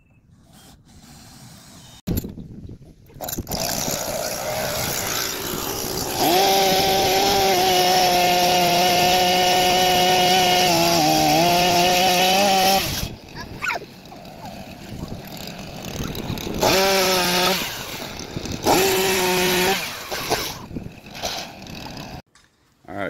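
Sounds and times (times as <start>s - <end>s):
chainsaw cutting timber: 3.2s - 22.2s.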